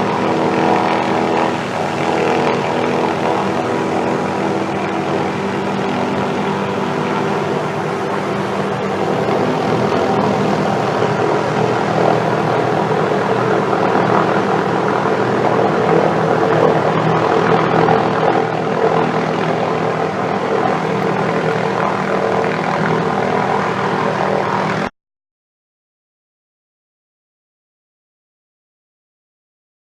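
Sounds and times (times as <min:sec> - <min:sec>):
helicopter rotor and engine drone: 0:00.0 - 0:24.9.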